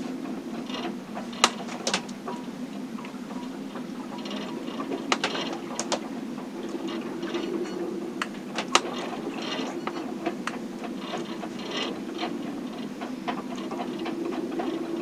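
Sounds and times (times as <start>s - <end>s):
boat hull creaking and knocking: 0.0s - 15.0s
steady low hum: 0.0s - 15.0s.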